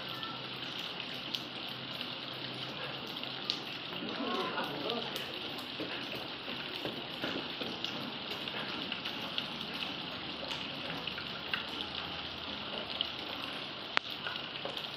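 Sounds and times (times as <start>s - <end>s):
rain falling: 0.0s - 14.9s
water splashing onto stones: 0.0s - 14.9s.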